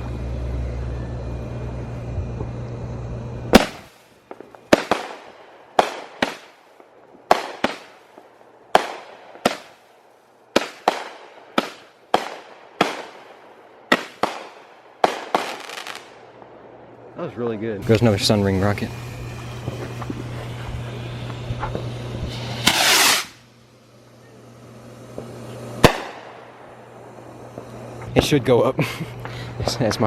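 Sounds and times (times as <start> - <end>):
low steady rumble: 0.0 - 30.0
firework bangs: 3.4 - 16.8, 17.8 - 23.8, 24.8 - 30.0.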